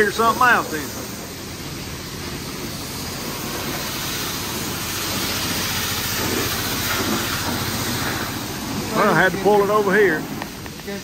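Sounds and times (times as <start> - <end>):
high-pressure water spray hissing: 0.0 - 11.0.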